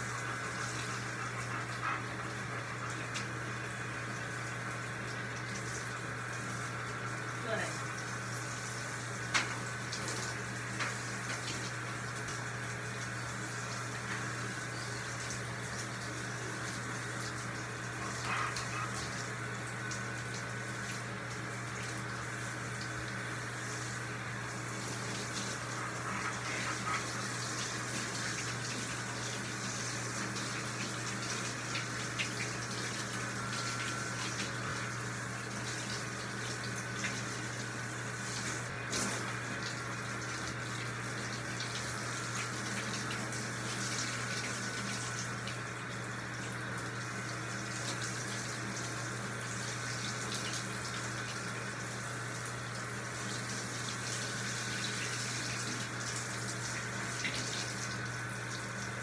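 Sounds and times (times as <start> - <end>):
shower water spraying and splashing: 0.0 - 59.0.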